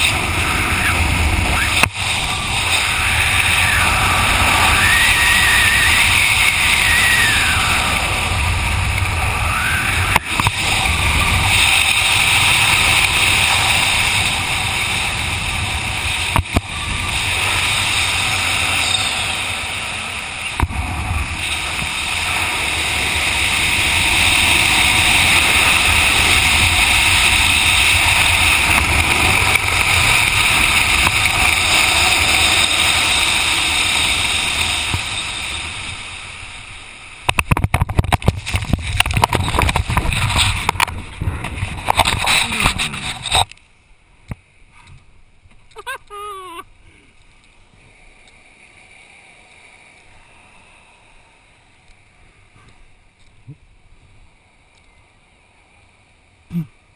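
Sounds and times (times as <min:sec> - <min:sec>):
wind rushing over microphone: 0:00.0 - 0:46.8.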